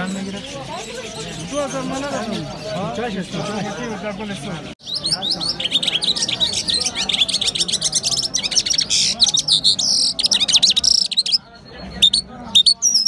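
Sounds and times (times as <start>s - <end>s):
small birds twittering: 0.0s - 13.0s.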